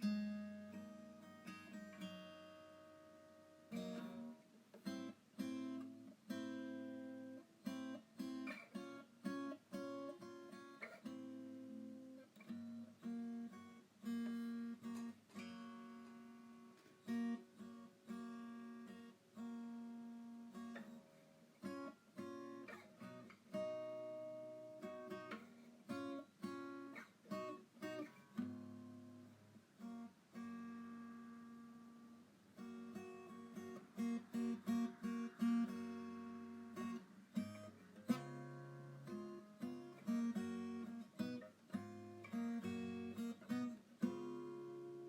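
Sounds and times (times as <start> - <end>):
acoustic guitar solo: 0.0 - 45.0.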